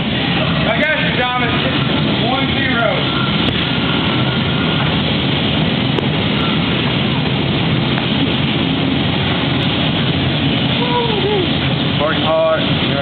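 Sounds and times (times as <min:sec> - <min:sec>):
floor fan running: 0:00.0 - 0:13.0.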